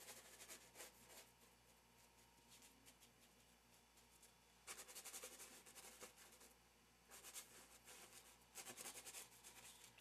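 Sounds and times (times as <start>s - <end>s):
paint strokes on canvas: 0.0s - 10.0s.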